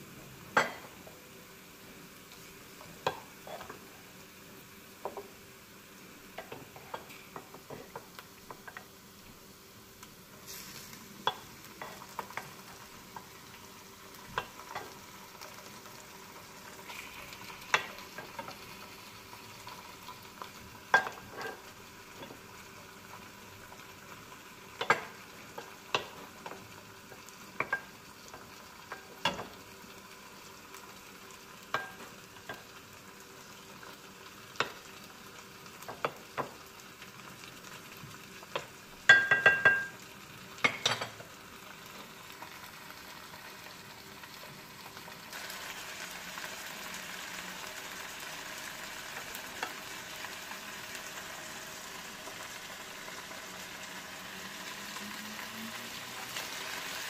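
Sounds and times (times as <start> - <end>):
chicken and onion sizzling in pan: 0.0 - 57.0.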